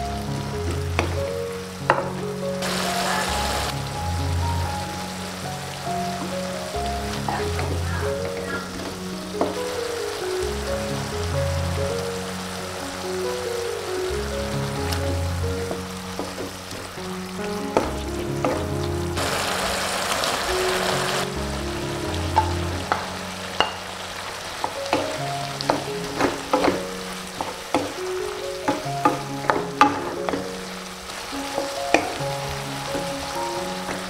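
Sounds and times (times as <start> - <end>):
background music: 0.0 - 34.0
vegetables sizzling in a wok: 0.2 - 34.0.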